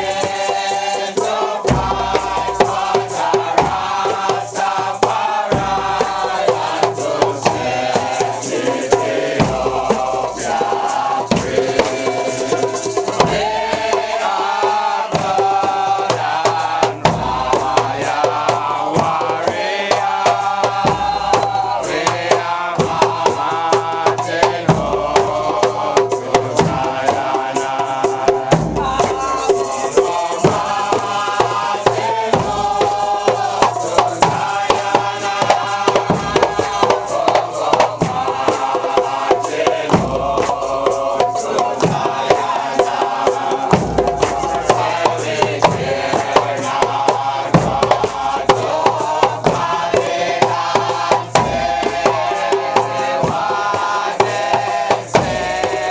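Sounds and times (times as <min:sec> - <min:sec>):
congregation singing a chant: 0:00.0 - 0:55.9
hand drums: 0:00.0 - 0:55.9
large bass drum: 0:01.7 - 0:08.6, 0:15.1 - 0:55.9.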